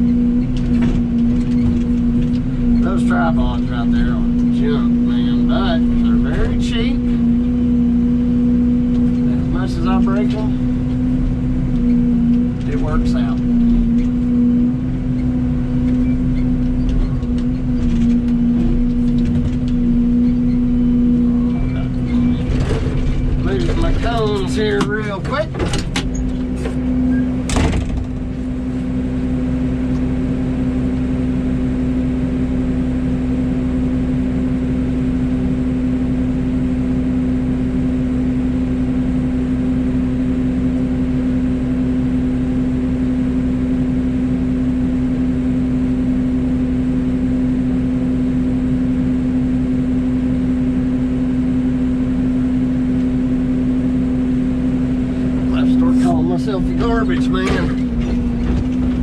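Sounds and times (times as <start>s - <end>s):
excavator engine and hydraulics humming: 0.0s - 59.0s.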